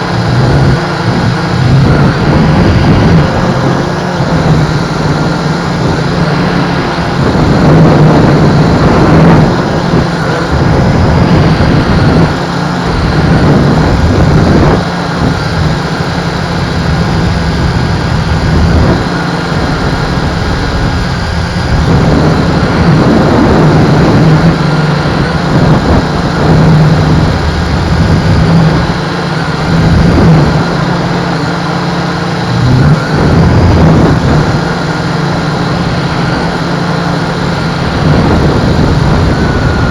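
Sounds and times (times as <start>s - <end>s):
drone propellers humming: 0.0s - 39.9s
wind buffeting microphone: 0.0s - 39.9s.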